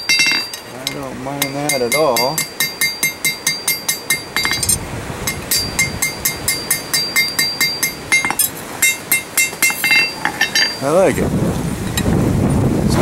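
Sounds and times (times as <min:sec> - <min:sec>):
hammer striking steel on anvil: 0:00.0 - 0:10.9.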